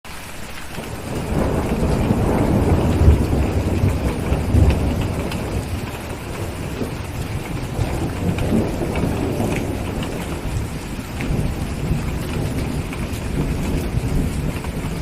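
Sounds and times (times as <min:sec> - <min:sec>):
rain hissing: 0:00.1 - 0:15.0
thunder rumbling: 0:00.8 - 0:15.0.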